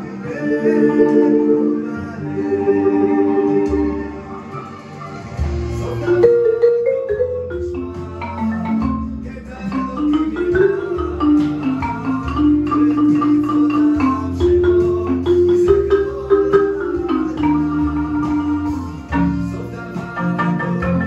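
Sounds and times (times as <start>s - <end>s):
marimba played with mallets: 0.0s - 21.0s.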